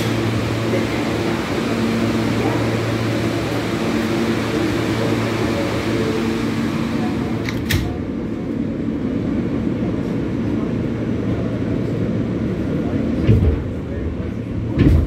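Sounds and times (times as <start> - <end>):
subway car ventilation hum: 0.0 - 15.0.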